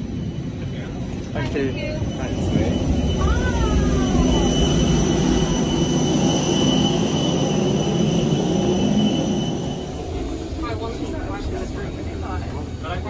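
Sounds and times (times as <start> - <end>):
jet engine whine: 0.0 - 13.0.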